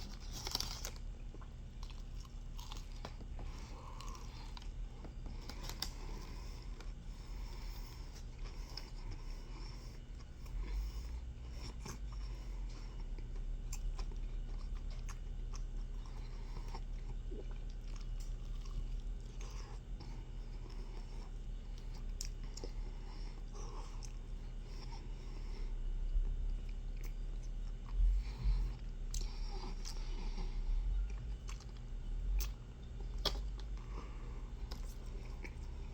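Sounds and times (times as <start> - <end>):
person chewing and biting food: 0.0 - 35.9
steady low hum: 0.0 - 35.9.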